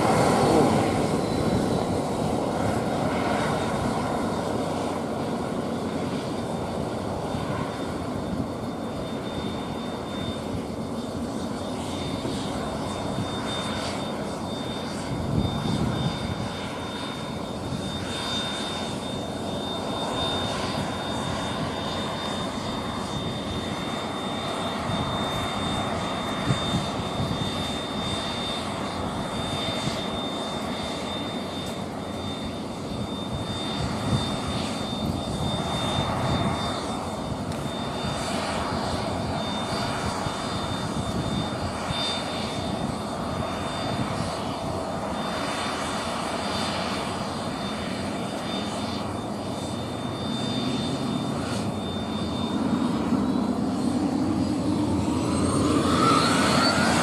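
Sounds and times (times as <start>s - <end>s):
high-pitched engine whine: 0.0s - 57.0s
jet engines rushing: 0.0s - 57.0s.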